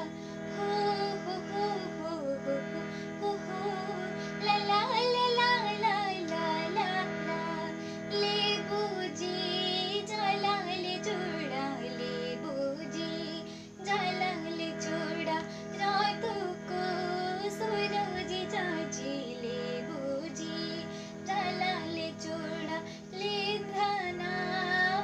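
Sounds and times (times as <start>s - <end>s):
woman singing folk song: 0.0s - 25.0s.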